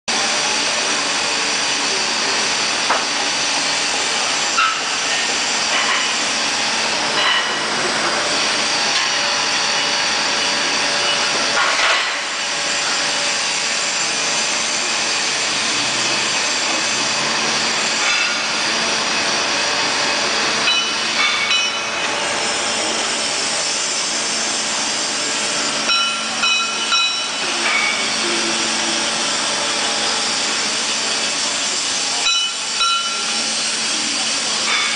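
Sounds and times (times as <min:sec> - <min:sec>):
grinding machine hissing and whining: 0:00.1 - 0:34.9.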